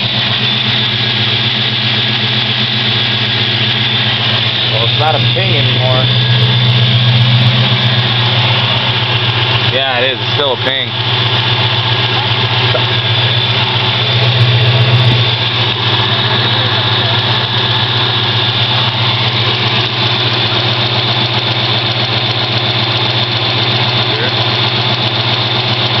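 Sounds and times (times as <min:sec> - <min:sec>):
car engine idling: 0:00.0 - 0:26.0
engine ticking: 0:00.0 - 0:26.0.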